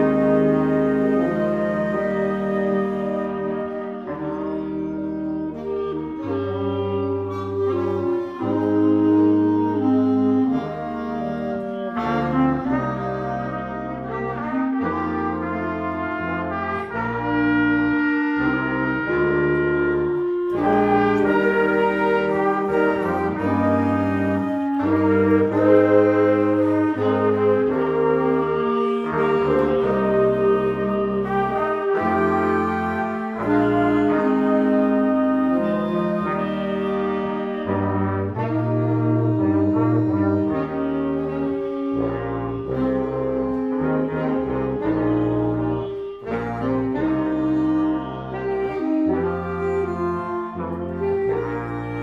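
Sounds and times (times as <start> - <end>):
concert band playing slow piece: 0.0 - 52.0.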